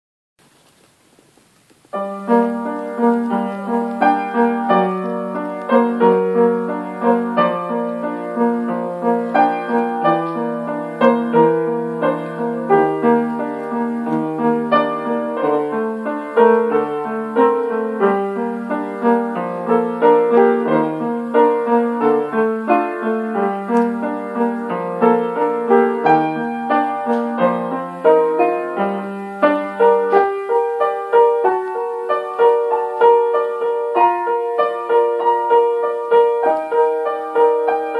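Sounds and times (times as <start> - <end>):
solo upright piano: 0.4 - 37.9.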